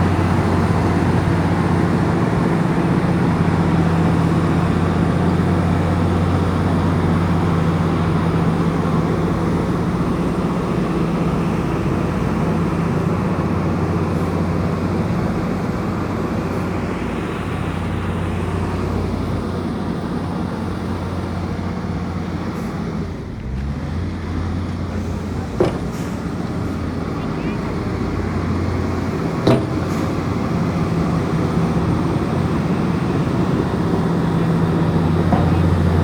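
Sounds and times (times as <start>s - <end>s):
bulldozer diesel engine: 0.0s - 36.0s.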